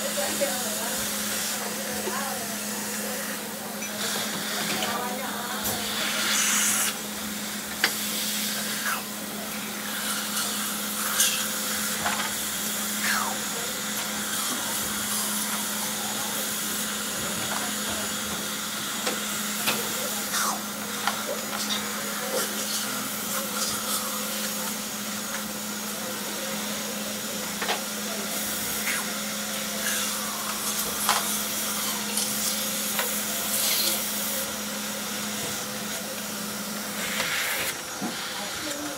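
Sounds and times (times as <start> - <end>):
dental suction hum: 5.6 - 38.7.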